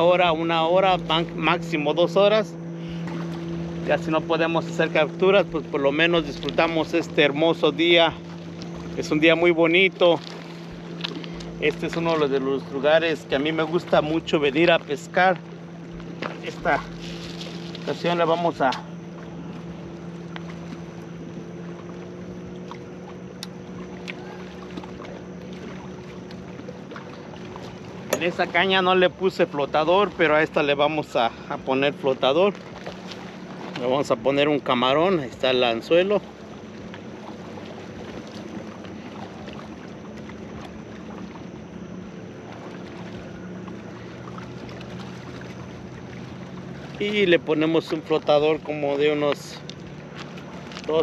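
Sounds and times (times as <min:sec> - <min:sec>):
motorboat engine hum: 0:00.0 - 0:51.0
water lapping on rocks: 0:00.0 - 0:51.0.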